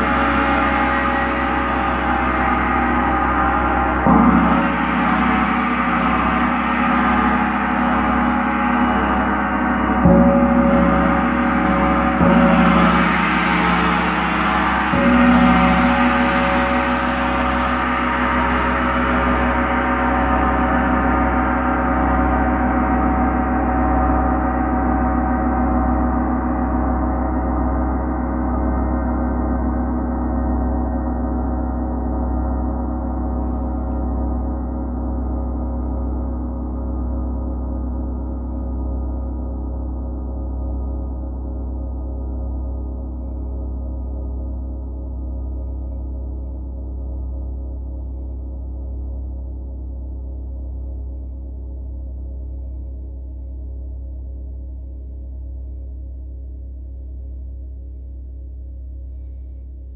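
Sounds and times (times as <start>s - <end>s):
large gong ringing: 0.0s - 52.4s.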